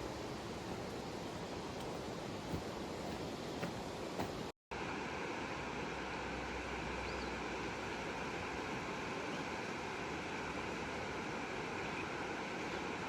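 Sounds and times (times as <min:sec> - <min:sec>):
steady water rushing: 0:00.0 - 0:13.0.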